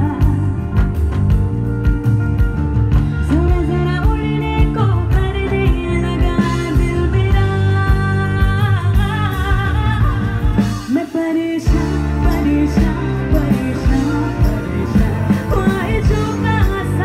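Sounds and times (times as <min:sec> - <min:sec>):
woman singing: 0:00.0 - 0:01.1, 0:03.2 - 0:17.0
bass: 0:00.0 - 0:17.0
drums: 0:00.0 - 0:17.0
electric guitar: 0:00.0 - 0:17.0.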